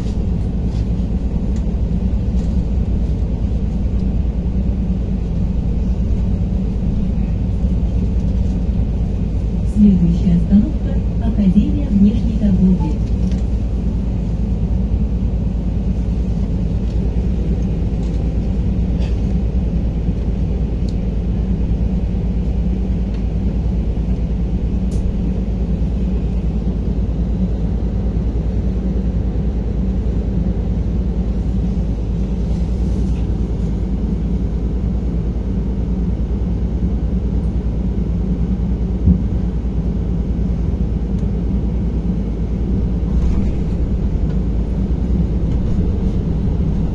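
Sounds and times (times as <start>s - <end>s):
bus engines rumbling: 0.0s - 46.9s.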